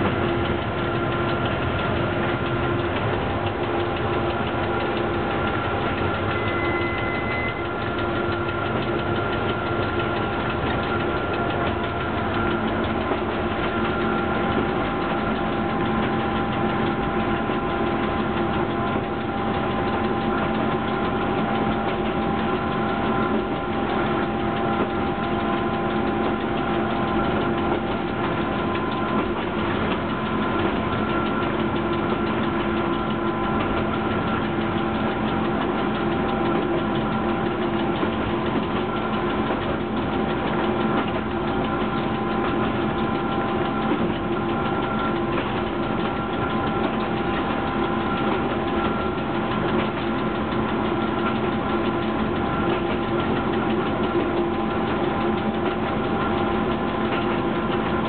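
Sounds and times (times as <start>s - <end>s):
locomotive cab hum: 0.0s - 58.0s.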